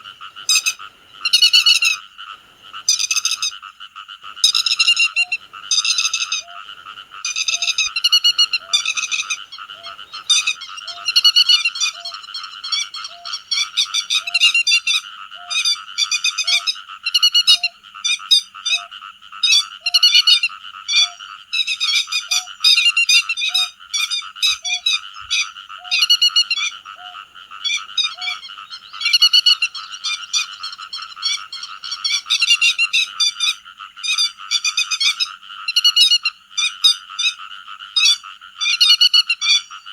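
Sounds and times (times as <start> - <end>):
lapwing calling sharp notes: 0.0 - 2.0, 2.8 - 3.6, 4.4 - 37.4.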